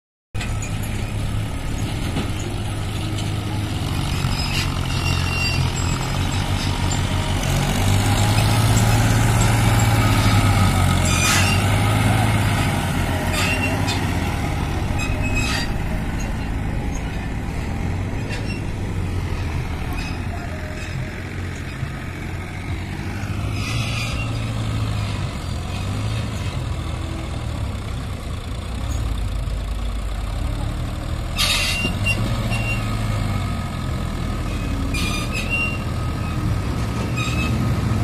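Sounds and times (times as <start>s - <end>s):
tractor diesel engine running: 0.4s - 38.0s.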